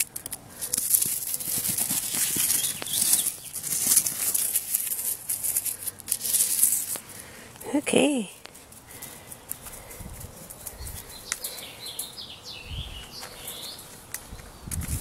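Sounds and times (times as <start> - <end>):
rustling in dry grass and leaves: 0.0 - 15.0.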